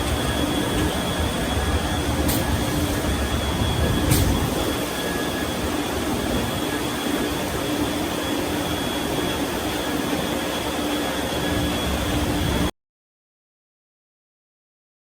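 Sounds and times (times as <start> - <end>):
large ventilation fans running: 0.0 - 12.7.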